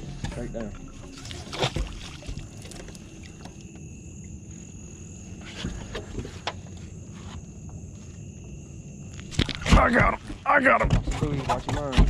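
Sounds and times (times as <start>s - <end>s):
night insects droning: 0.0s - 12.0s.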